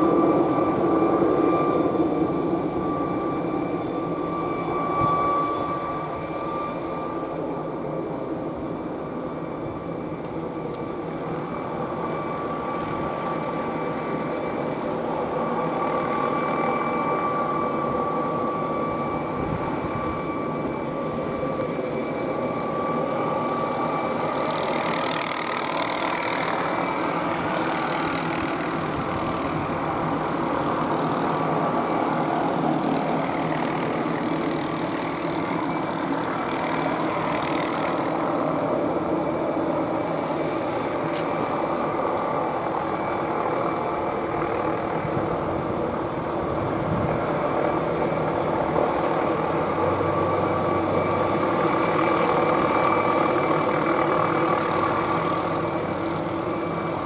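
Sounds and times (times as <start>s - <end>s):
helicopter turbine whine: 0.0s - 57.0s.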